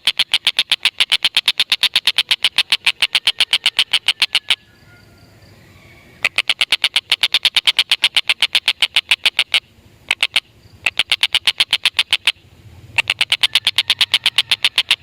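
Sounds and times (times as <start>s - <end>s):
kingfisher cackling: 0.0s - 4.7s, 6.2s - 15.0s.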